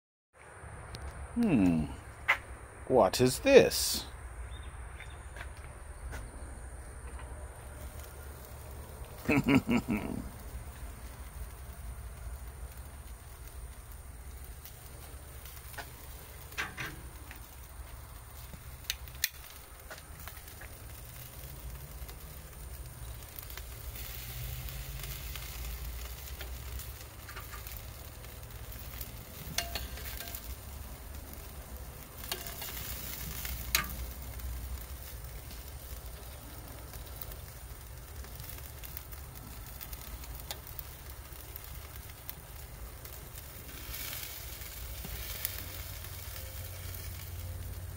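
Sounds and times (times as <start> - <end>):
wings sizzling on grill: 1.4 - 2.0, 2.9 - 47.9.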